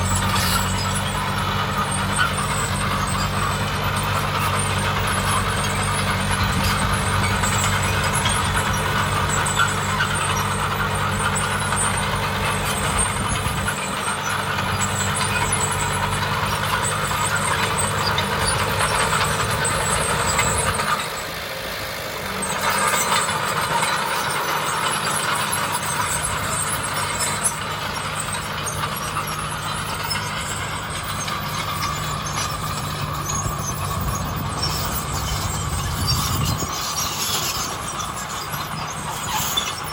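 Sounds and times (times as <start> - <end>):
diesel construction machinery running: 0.0 - 39.9.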